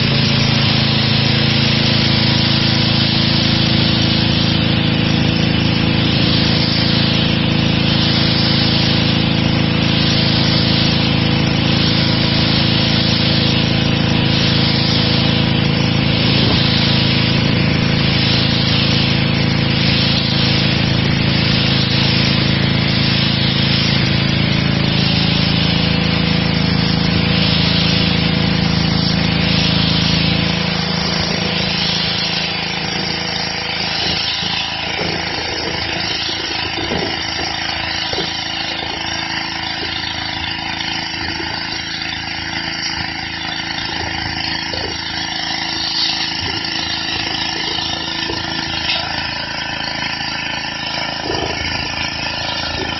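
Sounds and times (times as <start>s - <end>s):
pressure washer engine: 0.0s - 52.9s
water jet hissing: 0.0s - 52.9s.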